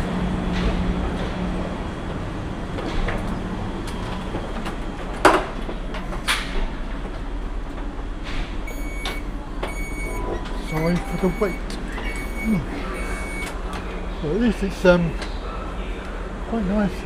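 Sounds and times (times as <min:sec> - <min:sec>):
train humming: 0:00.0 - 0:17.0.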